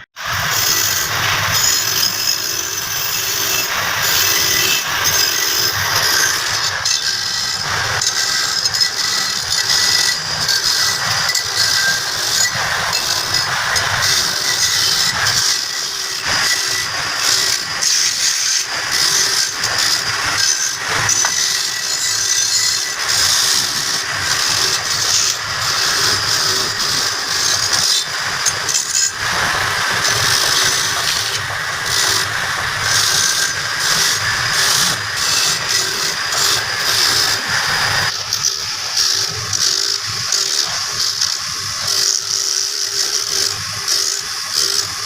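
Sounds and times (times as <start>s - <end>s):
power tool running with high hiss: 0.2s - 45.0s.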